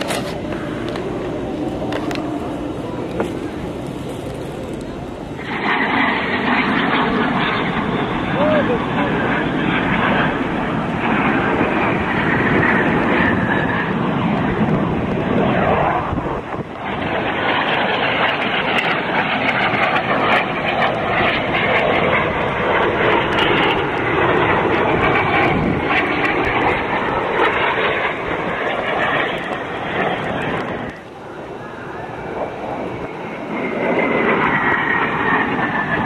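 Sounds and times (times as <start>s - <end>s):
jet engines rushing: 0.0s - 36.0s.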